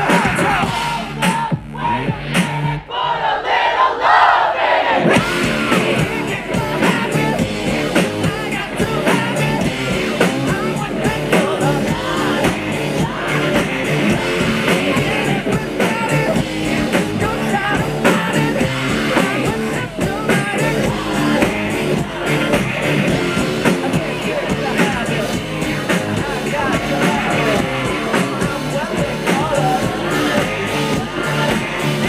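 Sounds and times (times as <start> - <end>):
man singing: 0.0 - 2.7, 5.2 - 32.0
live rock band playing: 0.0 - 2.8, 5.0 - 32.0.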